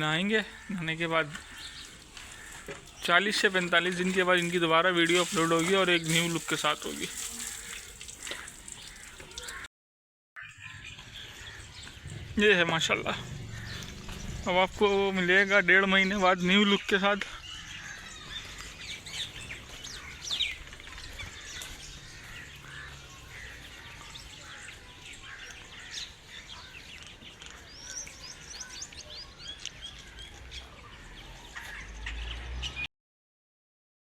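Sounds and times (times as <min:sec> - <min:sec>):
small birds chirping: 0:00.0 - 0:09.7, 0:10.4 - 0:32.9.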